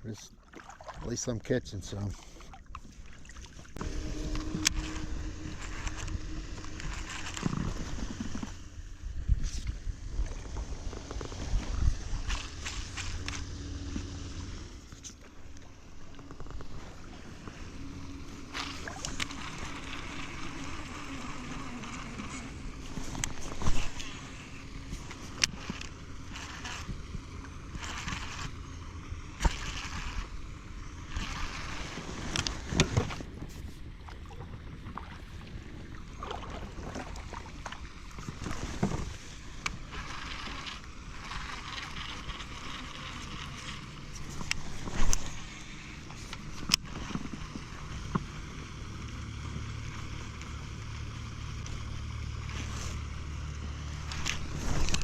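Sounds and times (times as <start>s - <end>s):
river water: 0.0s - 55.0s
steady low hum: 0.0s - 55.0s
wind: 0.0s - 55.0s.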